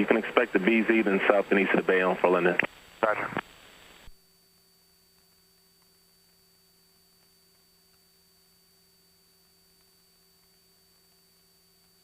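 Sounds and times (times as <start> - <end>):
faint electrical hum and hiss: 0.0 - 12.0.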